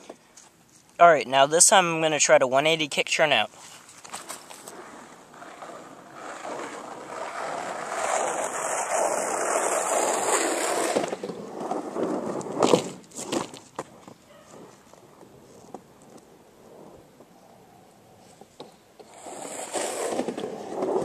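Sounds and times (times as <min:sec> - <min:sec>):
skateboard wheels rolling: 0:03.6 - 0:21.0.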